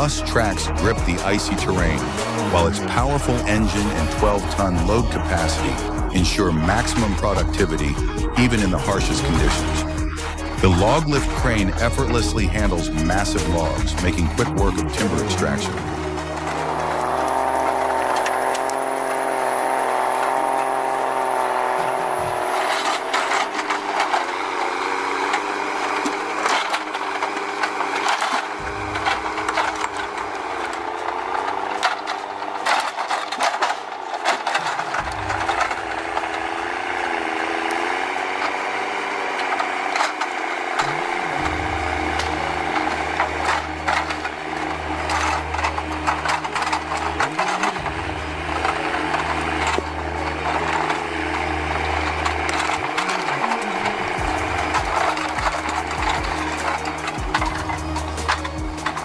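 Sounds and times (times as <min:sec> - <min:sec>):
diesel engine running: 0:00.0 - 0:59.0
logs knocking and clunking: 0:00.0 - 0:59.0.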